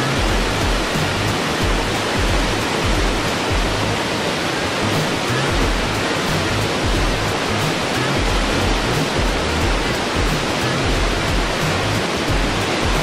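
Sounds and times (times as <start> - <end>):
music bass line: 0.0 - 4.0, 4.7 - 13.0
water falling down cascade: 0.0 - 13.0.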